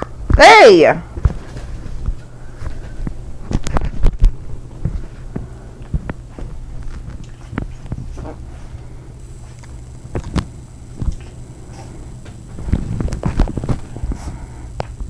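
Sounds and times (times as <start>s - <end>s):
pets scuffling and thumping: 0.0s - 15.0s
steady low hum: 0.0s - 15.0s.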